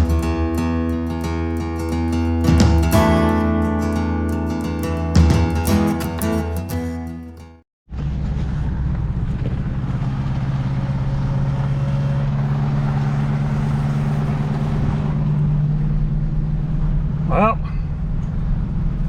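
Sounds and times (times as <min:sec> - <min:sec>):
tractor engine running: 0:00.0 - 0:06.9, 0:07.9 - 0:19.0.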